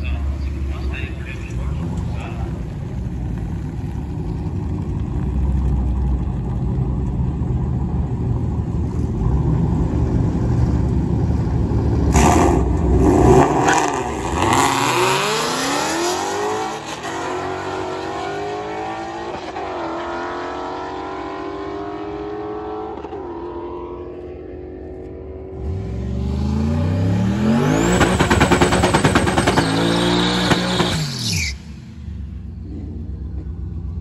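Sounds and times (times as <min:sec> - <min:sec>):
race car engines accelerating: 0:00.0 - 0:34.0.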